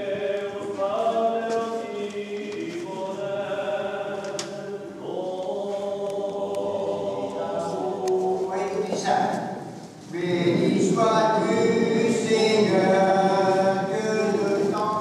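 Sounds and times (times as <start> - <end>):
choir singing long notes: 0.0 - 8.5, 10.1 - 15.0.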